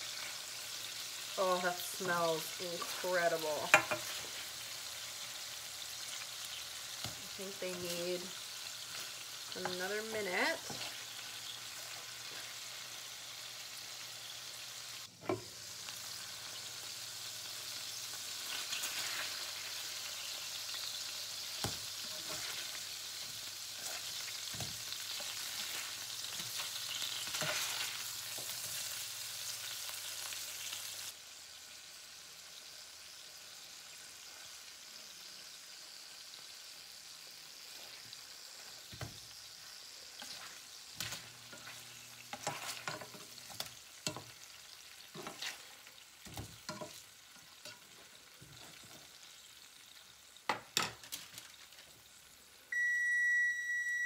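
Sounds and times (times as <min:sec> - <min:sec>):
patties sizzling in a frying pan: 0:00.0 - 0:53.5.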